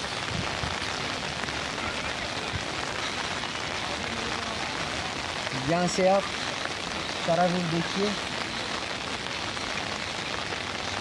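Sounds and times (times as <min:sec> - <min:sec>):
heavy rain on paving and lawn: 0:00.0 - 0:11.0.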